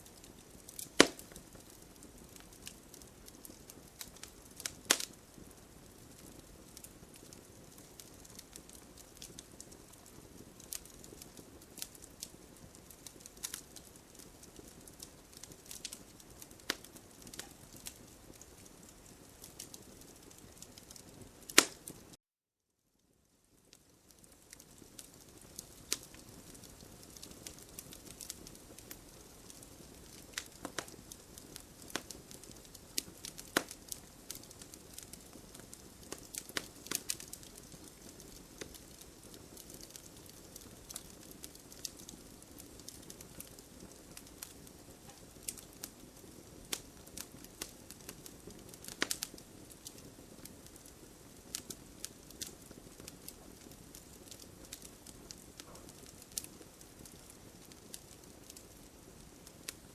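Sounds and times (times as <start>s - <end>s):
campfire crackling: 0.0s - 22.2s, 23.0s - 59.9s.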